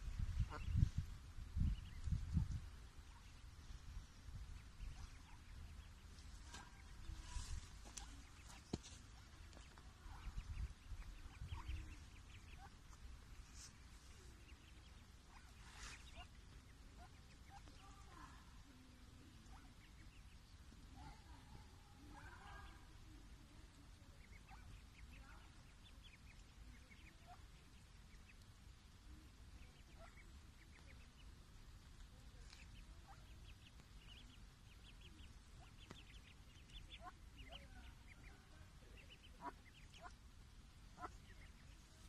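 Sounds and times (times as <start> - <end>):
ducklings peeping: 0.0 - 42.0.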